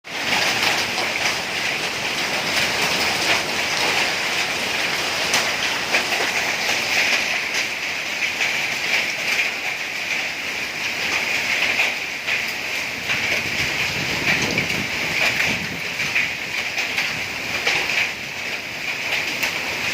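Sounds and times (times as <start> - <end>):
hailstones ticking: 0.1 - 19.9
rain hissing: 0.1 - 19.9.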